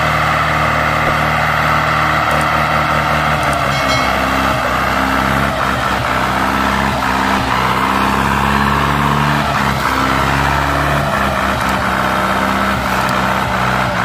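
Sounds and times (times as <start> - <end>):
tractor diesel engine under load: 0.0 - 3.7, 4.4 - 14.0.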